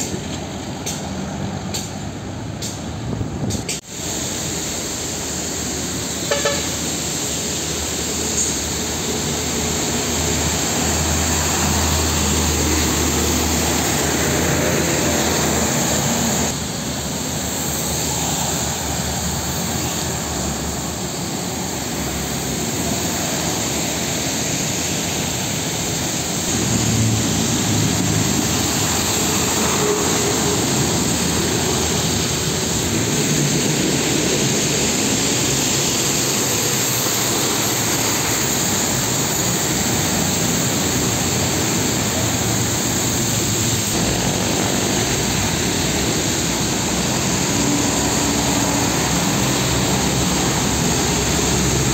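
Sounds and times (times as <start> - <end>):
vehicles passing: 0.0 - 3.8, 5.5 - 51.9
tyres hissing on wet road: 0.0 - 51.9.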